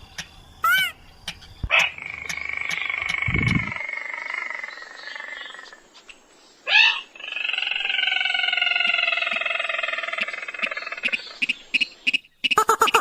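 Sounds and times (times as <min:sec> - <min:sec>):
rail bird calling: 0:00.0 - 0:13.0.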